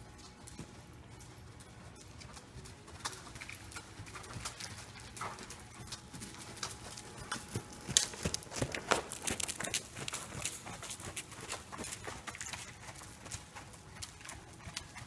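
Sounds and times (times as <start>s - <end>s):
horse hoofbeats on soft dirt: 0.0s - 15.0s.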